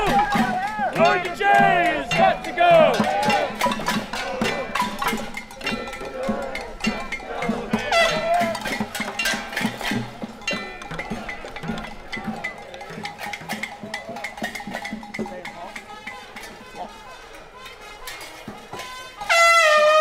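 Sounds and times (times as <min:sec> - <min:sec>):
mallets banging on metal pots: 0:00.0 - 0:20.0
voices shouting: 0:00.0 - 0:20.0.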